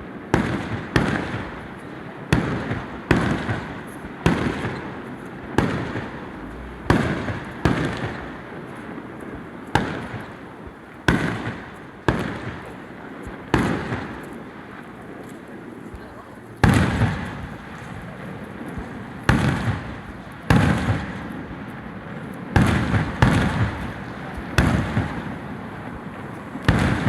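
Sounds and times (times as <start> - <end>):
firework shells booming: 0.3 - 14.6, 16.6 - 21.6, 22.5 - 27.0.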